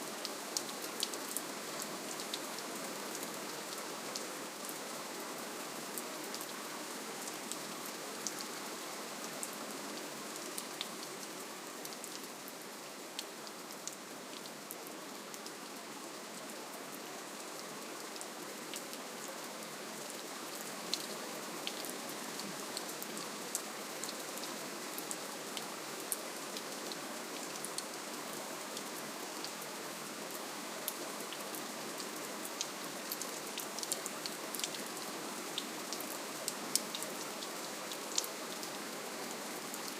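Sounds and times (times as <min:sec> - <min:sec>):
soft steady rainfall: 0:00.0 - 0:39.9.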